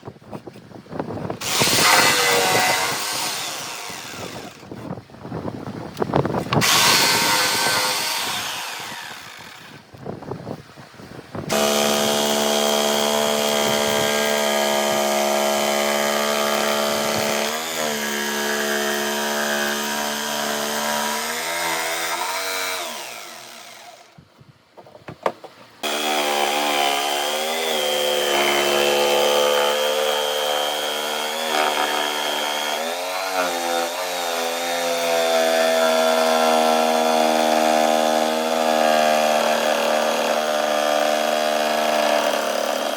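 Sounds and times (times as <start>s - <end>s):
power tool cutting wood: 1.4s - 4.8s, 6.4s - 9.8s, 11.5s - 24.2s, 25.8s - 42.9s.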